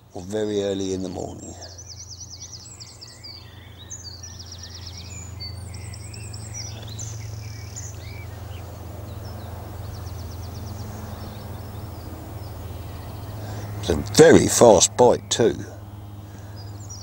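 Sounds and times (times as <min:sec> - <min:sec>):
songbirds singing: 0:00.0 - 0:17.0
steady low hum: 0:00.0 - 0:17.0.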